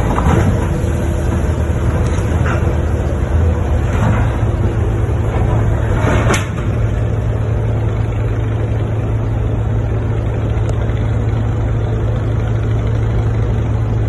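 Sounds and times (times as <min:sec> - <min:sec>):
ship engine droning: 0:00.0 - 0:14.0.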